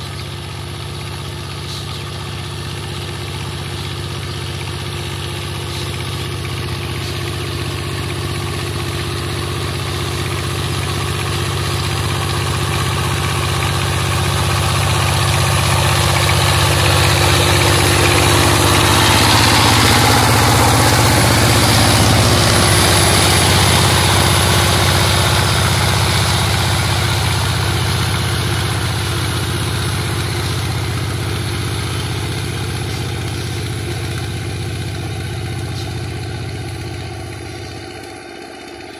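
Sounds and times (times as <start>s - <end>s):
diesel tiller engine running: 0.0s - 38.9s.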